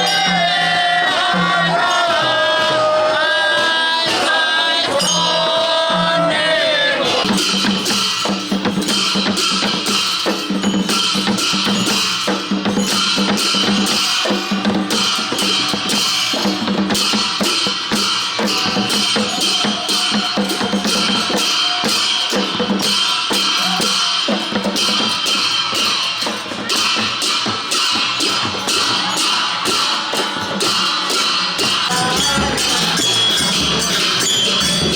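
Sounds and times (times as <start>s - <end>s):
drums and clashing percussion: 0.0s - 34.9s.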